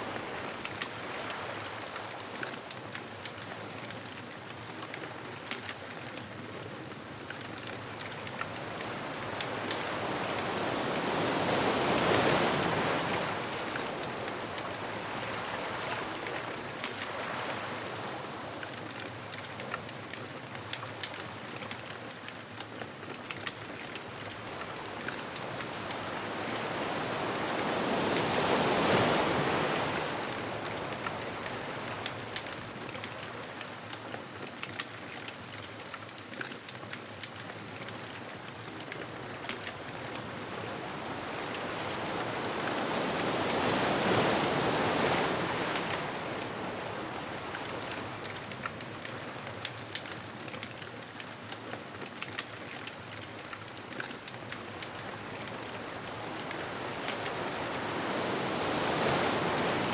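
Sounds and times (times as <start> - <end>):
ocean waves breaking on beach: 0.0 - 59.9
bonfire crackling: 0.1 - 59.9.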